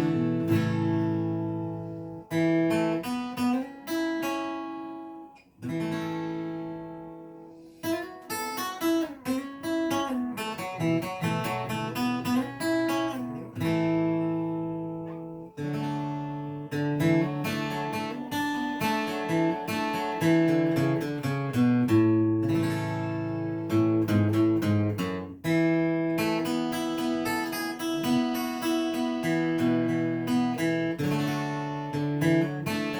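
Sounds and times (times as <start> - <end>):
acoustic guitar playing: 0.0 - 32.9.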